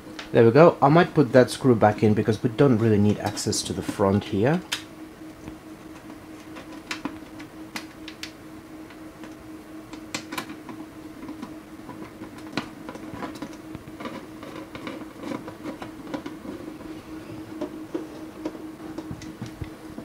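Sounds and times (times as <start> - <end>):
steady hum of server fans: 0.0 - 20.0.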